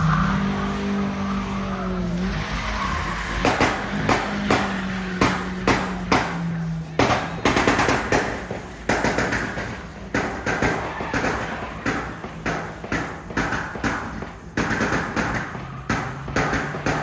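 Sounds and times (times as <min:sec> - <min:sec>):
sharp bangs and cracks: 0:00.0 - 0:17.0
steady low hum: 0:00.0 - 0:17.0.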